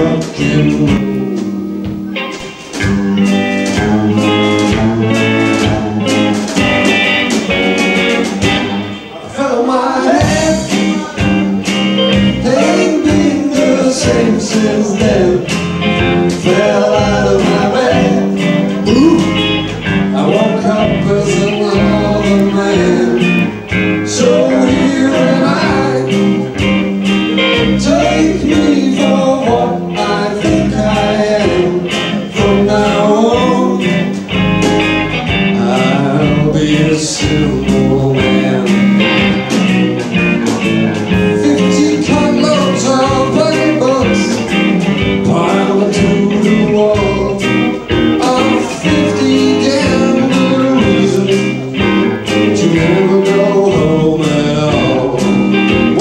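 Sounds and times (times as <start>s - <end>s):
drum kit: 0.0s - 9.2s, 10.0s - 56.0s
electric guitars: 0.0s - 56.0s
lead vocal singing: 0.0s - 56.0s.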